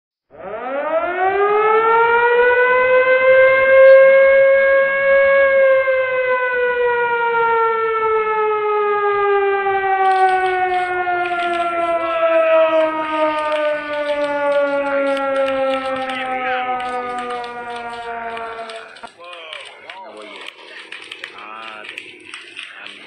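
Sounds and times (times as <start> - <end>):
siren wailing: 0.3 - 23.0.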